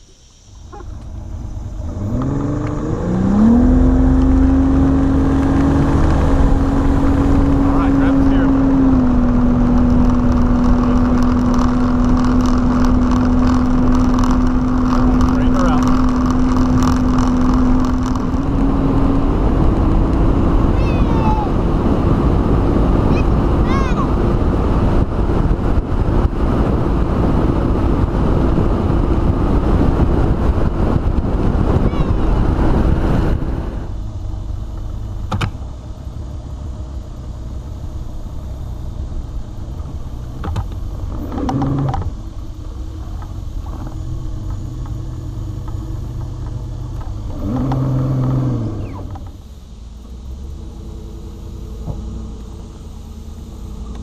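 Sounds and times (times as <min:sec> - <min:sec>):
truck engine hum: 0:00.0 - 0:54.0
wind noise: 0:00.0 - 0:54.0
boat motor: 0:00.3 - 0:54.0.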